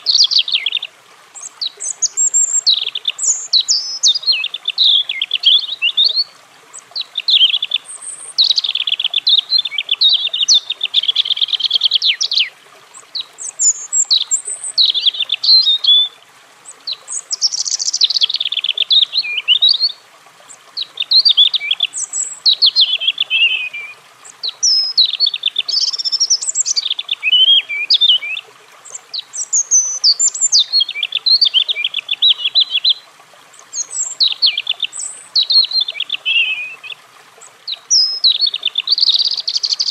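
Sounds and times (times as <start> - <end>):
robin singing: 0.0 - 20.0, 20.8 - 39.9.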